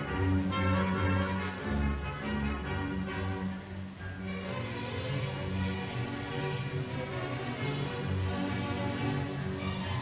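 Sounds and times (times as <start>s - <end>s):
string orchestra playing: 0.0s - 10.0s.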